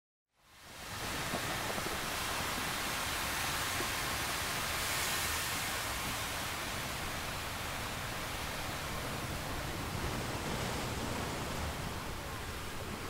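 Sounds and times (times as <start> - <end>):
wind: 0.3 - 13.0
ocean surf: 0.5 - 13.0.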